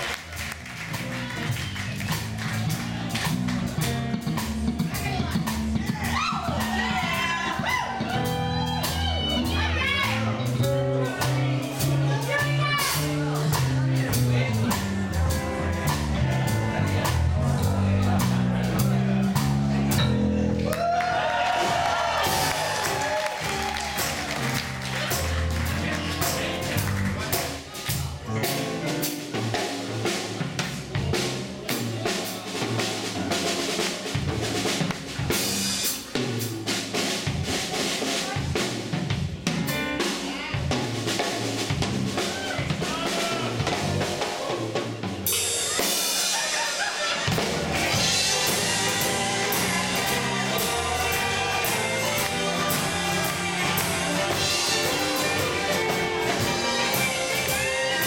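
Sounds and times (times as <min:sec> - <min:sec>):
band playing: 0:00.0 - 0:58.0
drum kit solo: 0:00.0 - 0:58.0.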